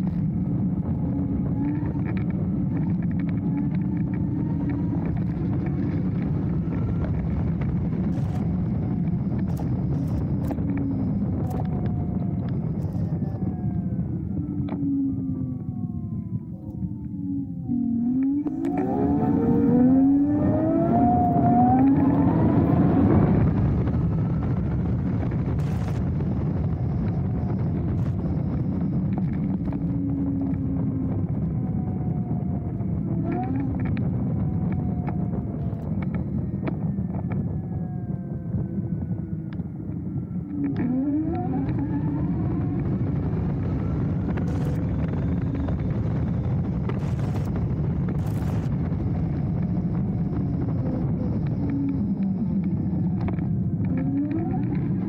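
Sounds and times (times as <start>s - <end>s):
electric motor whine: 0.0s - 55.0s
wind rushing over microphone: 0.0s - 55.0s.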